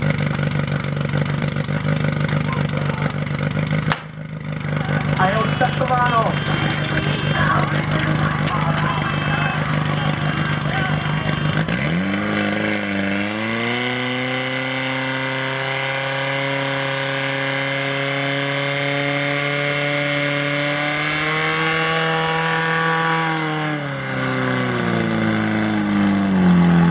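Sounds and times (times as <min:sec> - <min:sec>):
pump engine running at high revs: 0:00.0 - 0:26.9.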